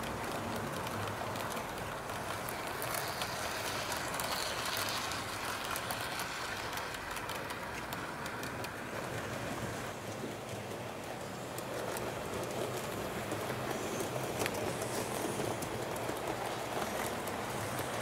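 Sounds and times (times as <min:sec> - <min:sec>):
model train rolling on track: 0:00.0 - 0:18.0
wheels clicking on rails: 0:00.0 - 0:18.0.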